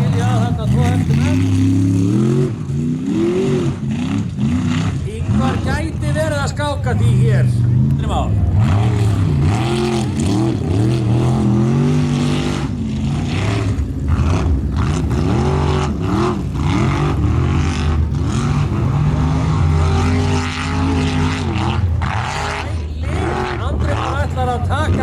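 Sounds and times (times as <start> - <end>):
race car engine revving: 0.0 - 25.0.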